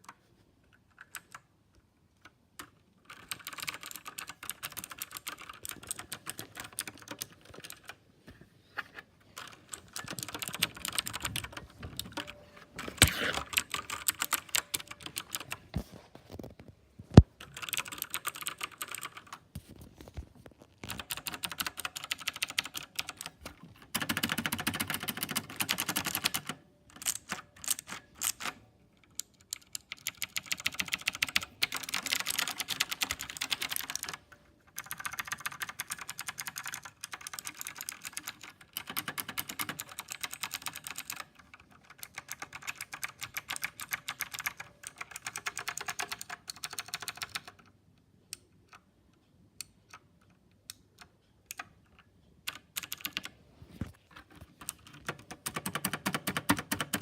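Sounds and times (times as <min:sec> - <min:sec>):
mechanical keyboard typing: 0:00.9 - 0:01.5, 0:02.2 - 0:08.0, 0:09.4 - 0:15.7, 0:17.2 - 0:19.5, 0:20.8 - 0:47.7, 0:50.7 - 0:53.3, 0:54.2 - 0:57.0.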